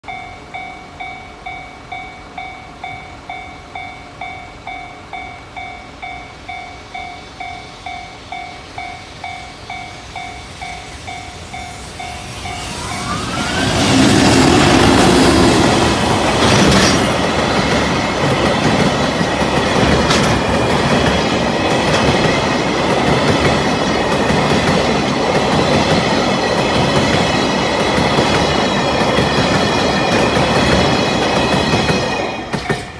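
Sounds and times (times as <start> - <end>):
freight train rumble: 0.0 - 32.9
train wheels clattering on rail joints: 6.0 - 32.9.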